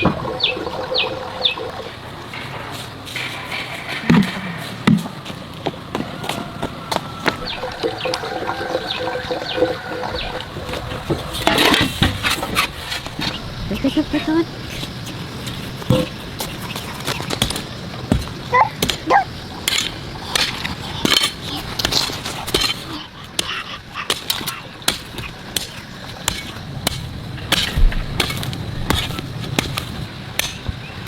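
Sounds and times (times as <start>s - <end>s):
steady background noise: 0.0s - 31.0s.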